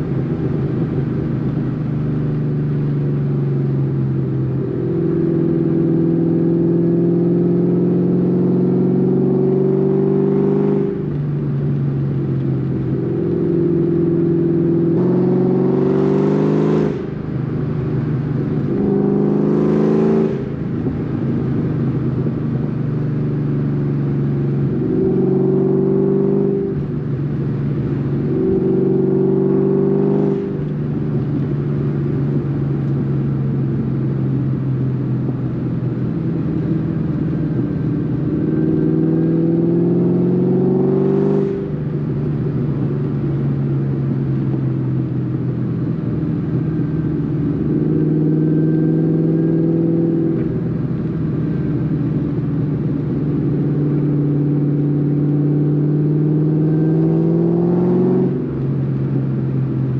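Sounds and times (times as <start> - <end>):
car engine revving through gear changes: 3.2 - 23.1, 24.0 - 30.7, 35.5 - 44.4, 45.1 - 59.2.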